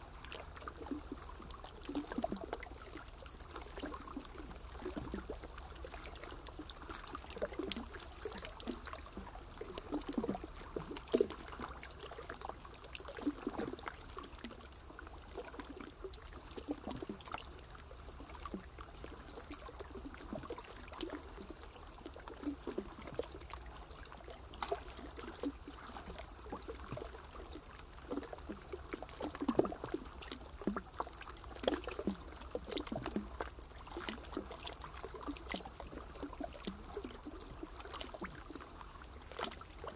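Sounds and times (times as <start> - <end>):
low steady hum: 0.0 - 39.9
water trickling and splashing: 0.0 - 39.9.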